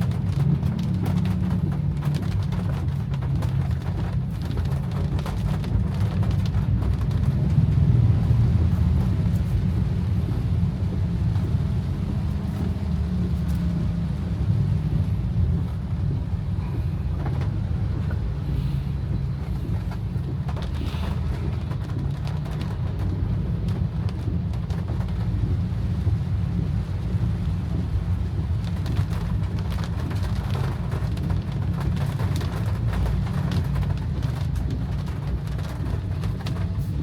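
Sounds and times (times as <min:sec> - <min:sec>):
car rumbling in heavy rain: 0:00.0 - 0:37.0
raindrops tapping: 0:00.0 - 0:37.0.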